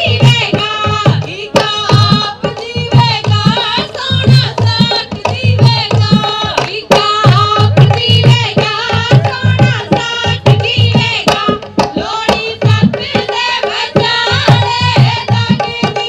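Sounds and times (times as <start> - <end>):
hand drum beat: 0.0 - 16.0
women singing folk song: 0.0 - 16.0.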